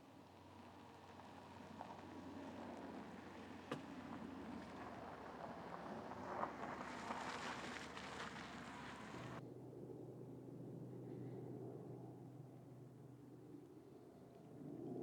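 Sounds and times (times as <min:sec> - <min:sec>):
aircraft passing overhead: 0:00.2 - 0:12.5.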